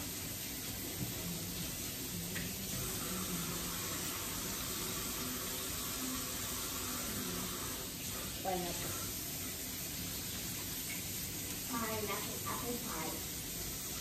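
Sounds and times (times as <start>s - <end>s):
faucet running into metal sink: 0.0s - 14.0s.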